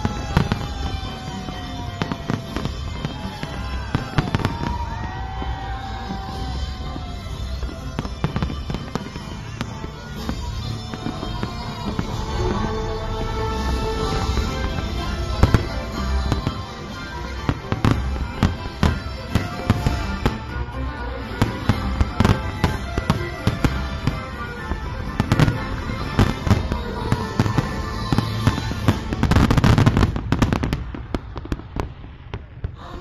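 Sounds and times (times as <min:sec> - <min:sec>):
music playing: 0:00.0 - 0:31.6
fireworks bangs: 0:00.0 - 0:33.0.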